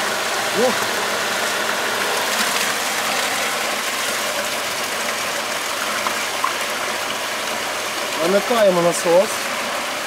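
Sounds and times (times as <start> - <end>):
pool pump whirring: 0.0 - 10.0
water rushing through hose: 0.0 - 10.0.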